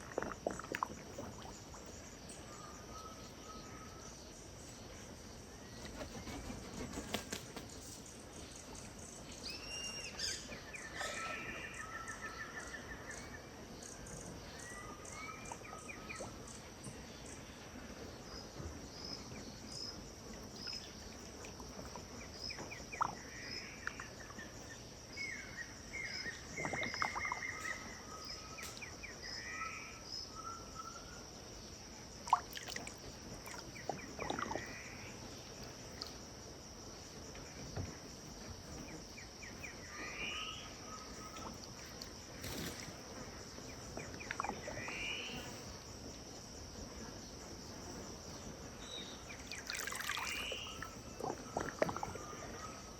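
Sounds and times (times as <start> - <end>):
birds chirping: 0.0 - 36.2, 36.8 - 46.1, 46.9 - 52.9
high insect drone: 0.0 - 52.9.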